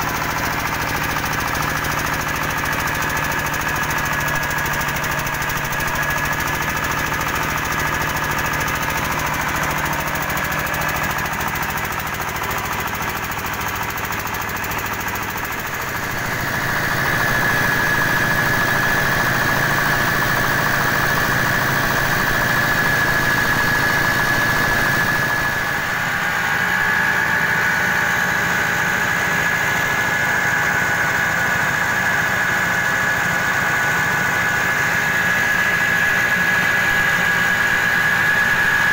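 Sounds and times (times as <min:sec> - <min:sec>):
steady high whine: 0:00.0 - 0:32.2
diesel engine knocking clatter: 0:00.0 - 0:38.9.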